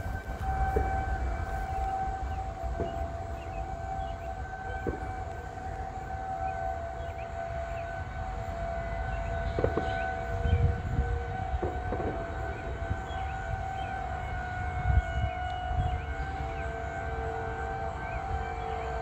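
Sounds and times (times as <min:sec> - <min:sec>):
warning siren steady pitch: 0:00.0 - 0:19.0.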